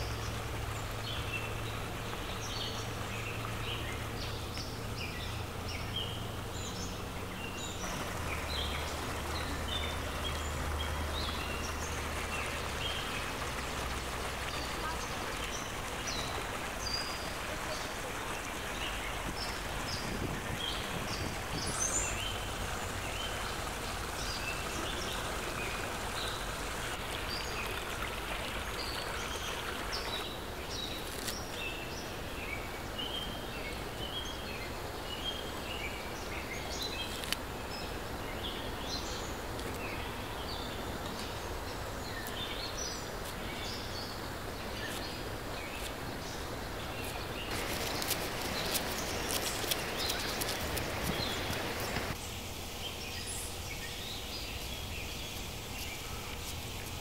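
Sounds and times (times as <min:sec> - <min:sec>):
outdoor background noise: 0:00.0 - 0:57.0
small birds chirping: 0:00.0 - 0:57.0.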